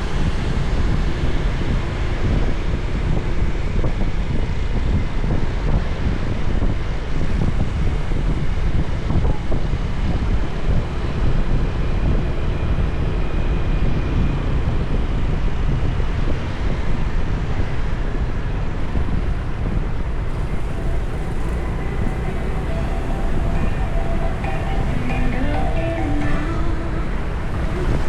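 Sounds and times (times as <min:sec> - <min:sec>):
road traffic: 0:00.0 - 0:08.9, 0:09.6 - 0:28.0
wind rumble on microphone: 0:00.0 - 0:28.0.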